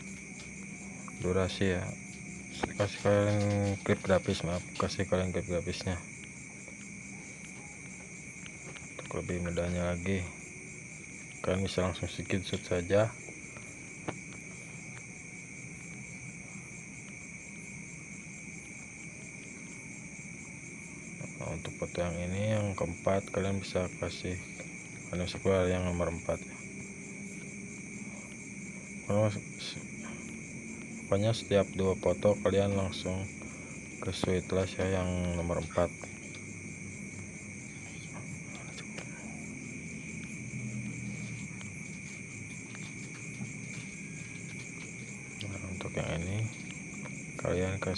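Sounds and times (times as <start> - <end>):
background hiss: 0.0 - 47.9
crickets trilling: 0.0 - 47.9
faint low hum: 0.0 - 47.9.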